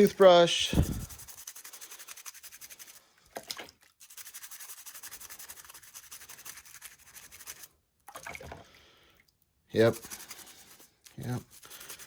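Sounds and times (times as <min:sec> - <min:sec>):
toothbrush scrubbing plastic: 0:00.0 - 0:07.7, 0:09.8 - 0:12.0.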